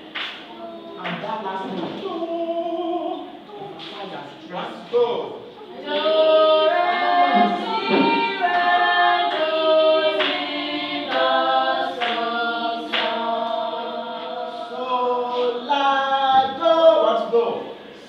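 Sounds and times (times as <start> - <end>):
group singing a cappella: 0.0 - 4.2, 5.6 - 18.0.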